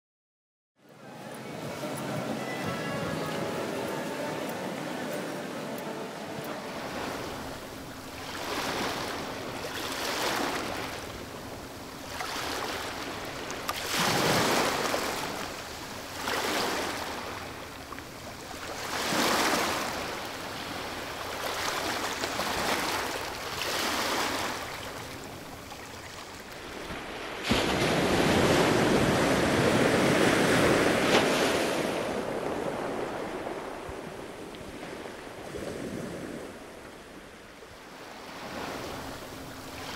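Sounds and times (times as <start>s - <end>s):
surf washing onto shore: 1.0s - 37.4s.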